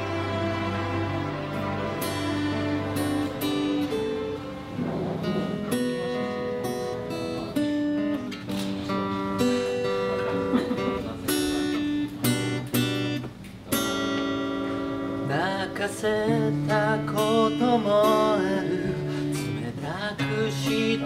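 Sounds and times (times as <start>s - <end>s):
fingerstyle acoustic guitar: 0.0s - 21.0s.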